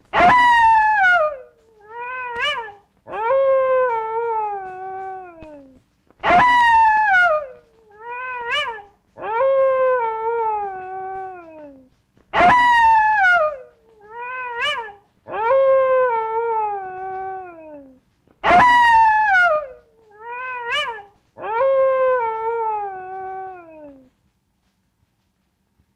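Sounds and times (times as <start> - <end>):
animal wailing calls: 0.1 - 24.1.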